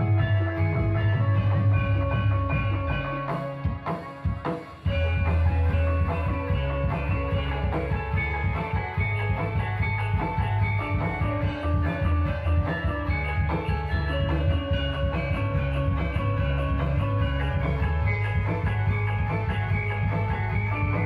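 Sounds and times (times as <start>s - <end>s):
heavy bass line: 0.0s - 3.7s, 4.9s - 21.0s
drums: 0.0s - 21.0s
mallet-struck melody: 0.0s - 21.0s.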